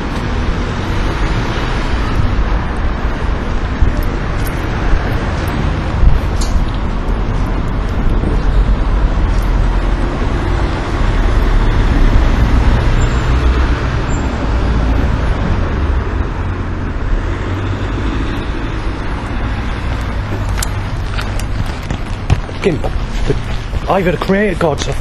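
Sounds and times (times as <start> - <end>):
vehicle passing close: 0.0 - 24.6
road traffic: 0.0 - 25.0.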